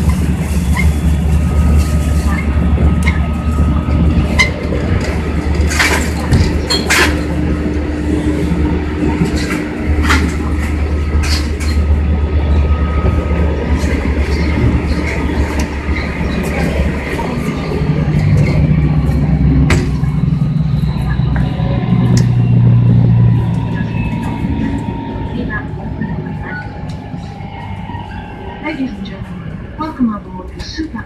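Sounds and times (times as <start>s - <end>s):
wheels clacking over rail joints: 0.0s - 28.3s
train running rumble: 0.0s - 31.0s.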